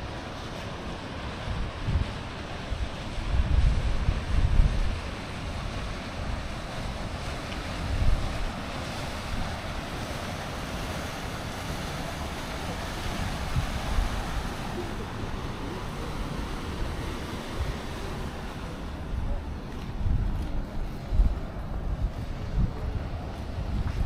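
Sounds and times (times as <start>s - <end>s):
steady outdoor hiss: 0.0s - 24.0s
wind buffeting microphone: 0.0s - 24.0s.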